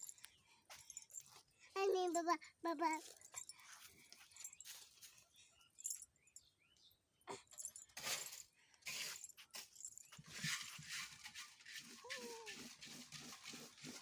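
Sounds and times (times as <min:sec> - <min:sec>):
rustling and clattering handling: 0:00.0 - 0:06.5, 0:07.5 - 0:14.0.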